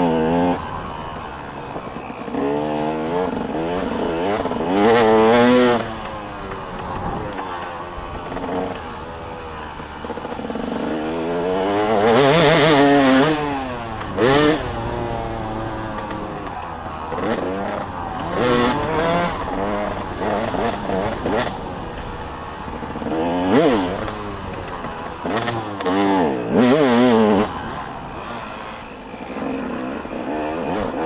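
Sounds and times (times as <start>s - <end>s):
motocross bikes revving: 0.0s - 31.0s.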